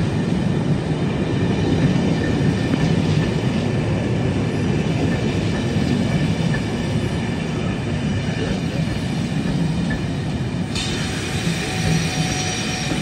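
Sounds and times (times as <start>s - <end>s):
train wheels rolling on track: 0.0s - 13.0s.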